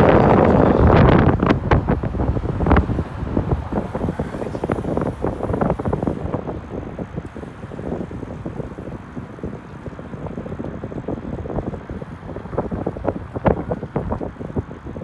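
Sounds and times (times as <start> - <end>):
wind buffeting the microphone: 0.0 - 15.0
bicycle knocking and rattling: 1.1 - 15.0.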